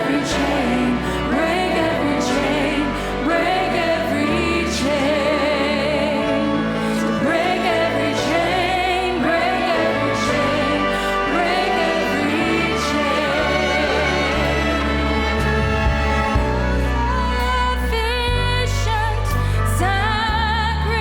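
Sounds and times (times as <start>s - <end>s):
choir singing: 0.0s - 18.8s
held bass notes: 0.0s - 21.0s
strings: 0.0s - 21.0s.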